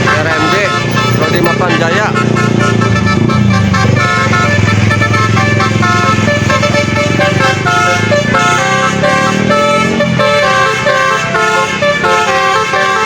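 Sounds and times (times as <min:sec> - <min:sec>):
bus engine running low: 0:00.0 - 0:13.0
musical bus horn playing a tune: 0:00.0 - 0:13.0.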